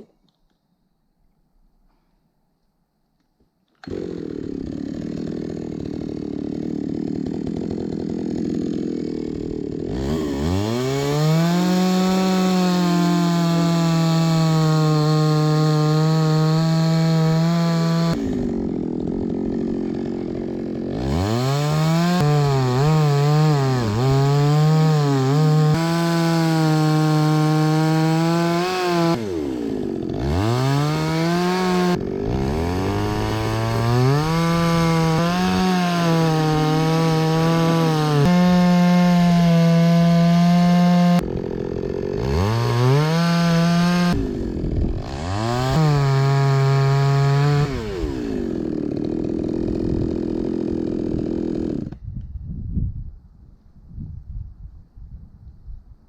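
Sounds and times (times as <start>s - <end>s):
chainsaw cutting through log: 3.8s - 52.1s.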